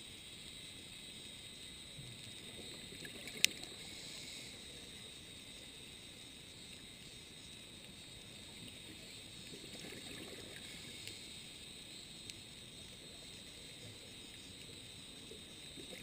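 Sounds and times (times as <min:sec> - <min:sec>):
underwater hiss: 0:00.0 - 0:16.0
faint clicks and crackles: 0:00.2 - 0:16.0.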